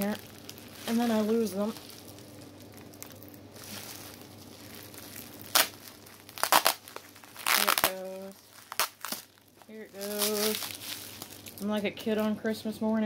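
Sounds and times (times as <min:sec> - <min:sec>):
bubble wrap rustling and ripping: 0:00.0 - 0:12.3.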